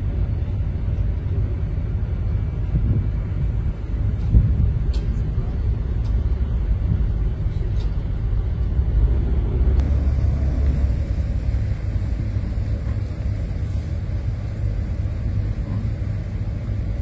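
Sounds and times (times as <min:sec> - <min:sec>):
ferry engine rumble: 0:00.0 - 0:17.0.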